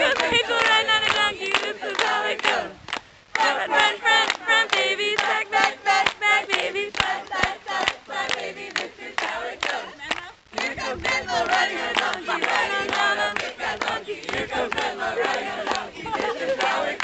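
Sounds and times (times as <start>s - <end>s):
group chanting in unison: 0.0s - 2.8s, 3.4s - 17.0s
hands clapping: 0.1s - 17.0s.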